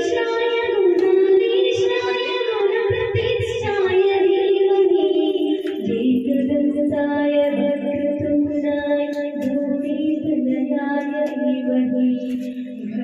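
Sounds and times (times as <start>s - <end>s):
devotional song in high voice: 0.0s - 13.0s.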